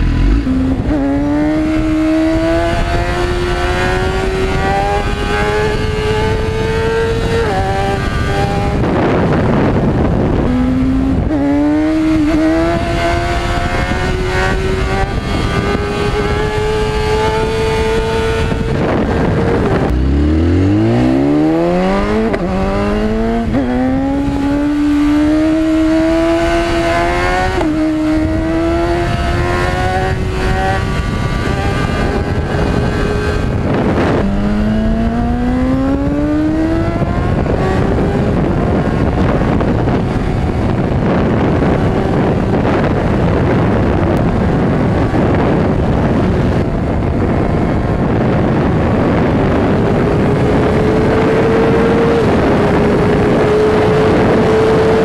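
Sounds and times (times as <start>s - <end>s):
motorcycle engine accelerating: 0.0s - 55.0s
wind rush: 0.0s - 55.0s.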